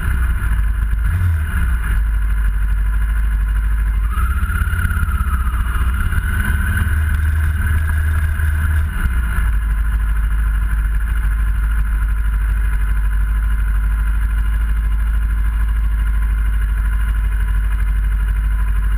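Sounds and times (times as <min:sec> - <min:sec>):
motorcycle engine running and idling: 0:00.0 - 0:18.9.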